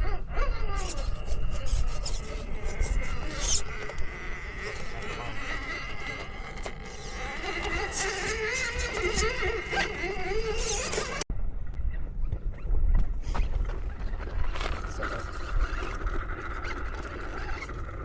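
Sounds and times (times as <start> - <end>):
electric motor and gears whining: 0.0 - 11.3, 13.8 - 18.0
wind rumbling on microphone: 0.0 - 18.0.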